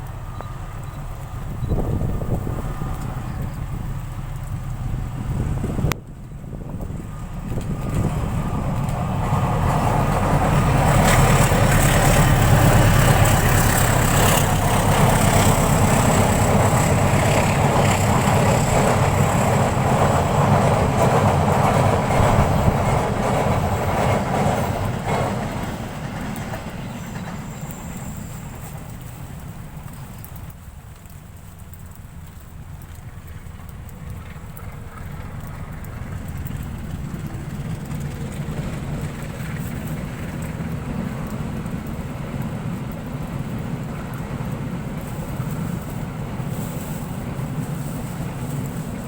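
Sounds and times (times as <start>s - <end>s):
train passing on rails: 0.0s - 49.0s.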